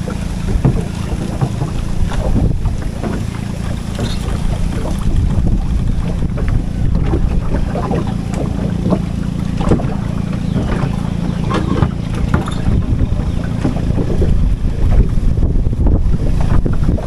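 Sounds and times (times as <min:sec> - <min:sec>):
rustles and splashes of water plants: 0:00.0 - 0:15.3
wind buffeting microphone: 0:00.0 - 0:17.0.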